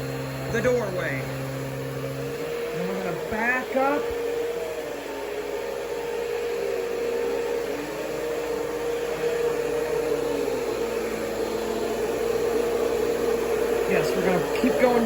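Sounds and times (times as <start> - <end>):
vacuum cleaner humming: 0.0 - 15.0.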